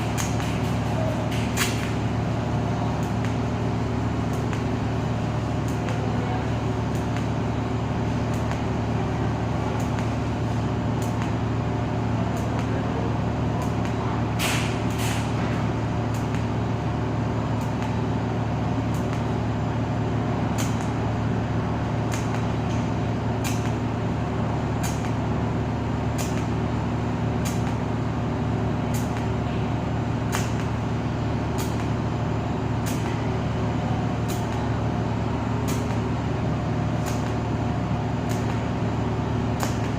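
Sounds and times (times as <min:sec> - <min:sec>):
welder arc buzzing: 0:00.0 - 0:39.9.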